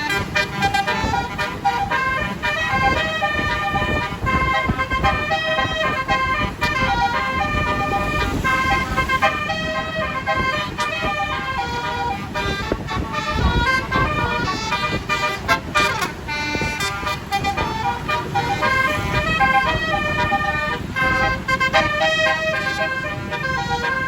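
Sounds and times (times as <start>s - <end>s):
bus horn playing melody: 0.0s - 24.0s
steady low noise: 0.0s - 24.0s.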